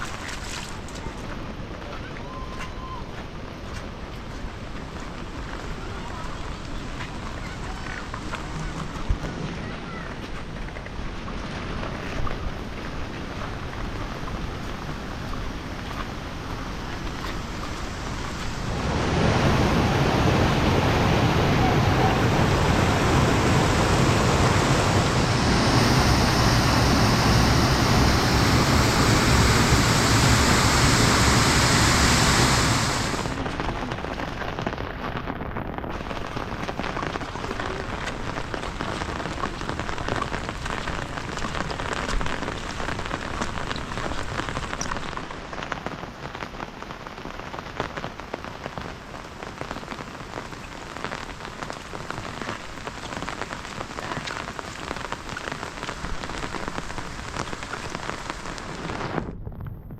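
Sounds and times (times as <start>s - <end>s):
heavy rain falling: 0.0s - 59.3s.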